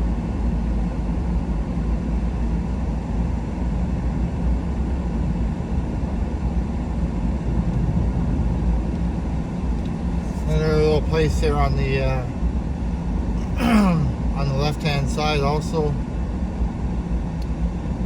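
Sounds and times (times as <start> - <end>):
truck engine and tyre rumble: 0.0 - 18.0.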